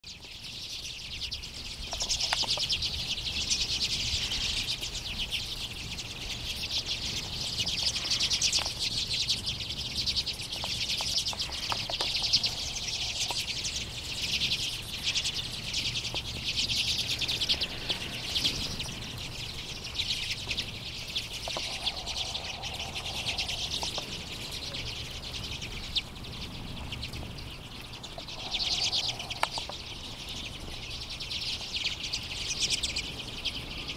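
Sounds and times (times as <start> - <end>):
flock of birds chattering: 0.0 - 33.9.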